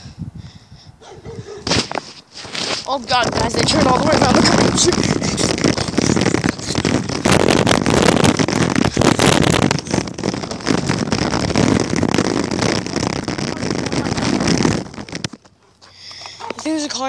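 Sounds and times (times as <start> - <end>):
scooter wheels rattling on pavement: 1.8 - 17.0.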